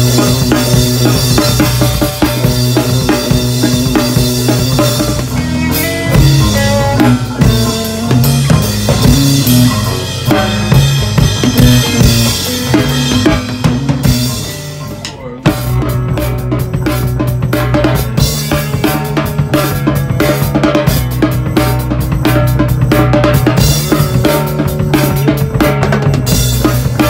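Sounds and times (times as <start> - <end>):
drum kit hits: 0.0 - 27.0
rock band playing: 0.0 - 27.0
steady bass line: 0.0 - 27.0.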